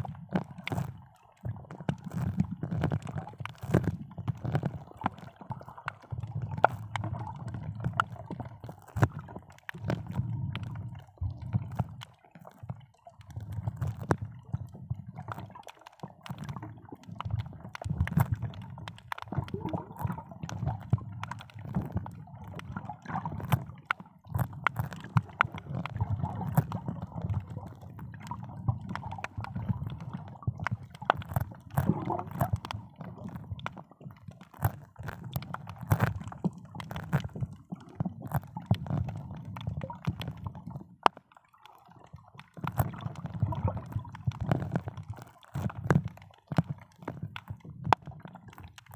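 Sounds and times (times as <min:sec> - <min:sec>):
low underwater rumble: 0:00.0 - 0:41.1, 0:42.0 - 0:48.6
small clicks and crackles: 0:00.0 - 0:48.9
water gurgling underwater: 0:00.0 - 0:48.9.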